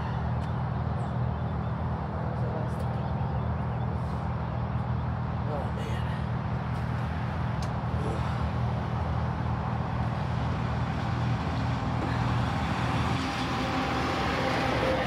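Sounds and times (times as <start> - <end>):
faint engine tone: 0.0 - 15.0
low engine hum: 0.0 - 15.0
road noise: 0.0 - 15.0
vehicles passing: 0.0 - 15.0.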